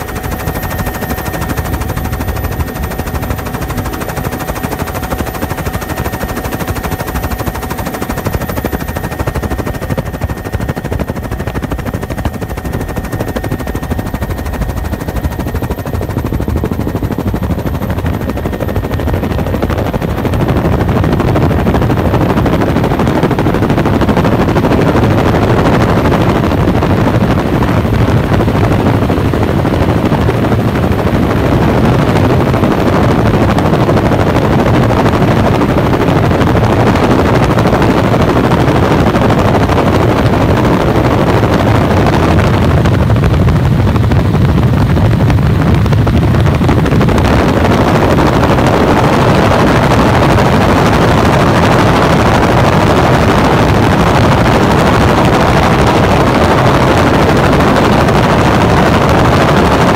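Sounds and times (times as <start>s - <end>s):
helicopter rotor and engine noise: 0.0s - 59.9s.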